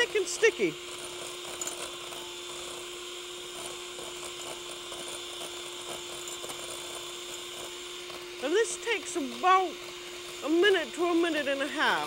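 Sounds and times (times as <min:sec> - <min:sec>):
electric hand mixer whipping: 0:00.0 - 0:12.0.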